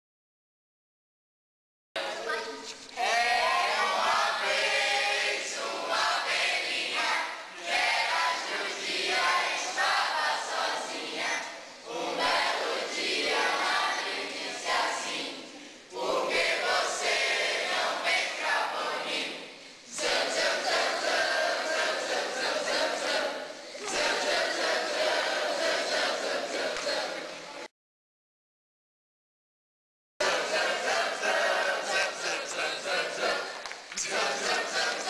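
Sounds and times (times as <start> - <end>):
group of people singing: 3.0 - 27.7, 30.2 - 35.0.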